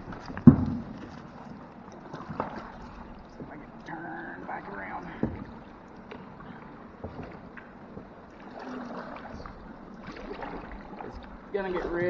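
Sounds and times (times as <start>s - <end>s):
paddle strokes splashing: 0.0s - 12.0s
running water: 0.0s - 12.0s.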